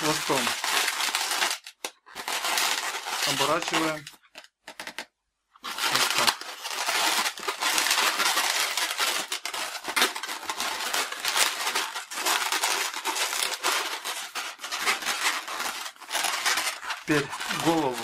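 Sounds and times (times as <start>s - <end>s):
balloon rubbing and squeaking: 0.0s - 4.9s, 5.6s - 18.0s.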